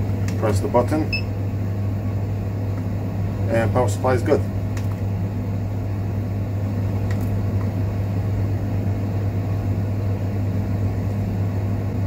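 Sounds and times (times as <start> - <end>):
low fan hum: 0.0 - 12.0.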